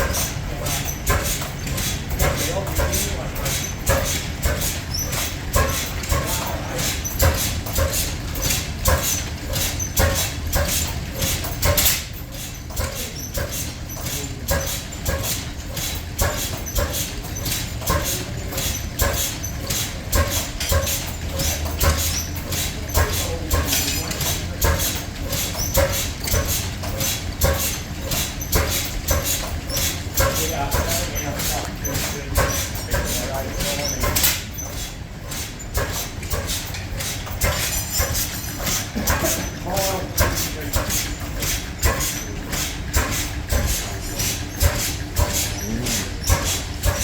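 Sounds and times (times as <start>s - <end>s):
machinery squeaks: 0.0s - 47.0s
steam engine beating: 0.0s - 47.0s.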